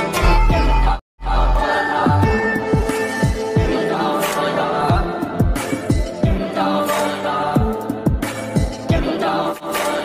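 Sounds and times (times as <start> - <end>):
hip-hop background music: 1.5 - 10.0.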